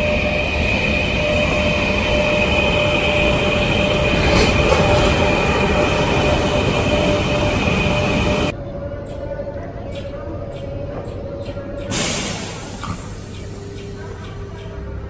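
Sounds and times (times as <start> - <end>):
train running noise with whine: 0.0 - 15.0.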